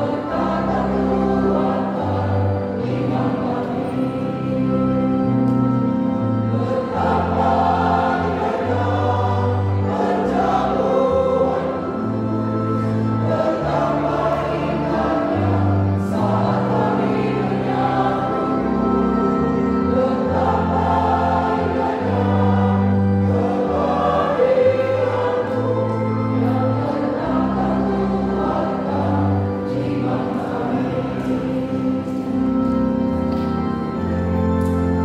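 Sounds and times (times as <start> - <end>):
mixed choir singing a hymn: 0.0 - 35.0
sustained low organ notes: 0.0 - 35.0.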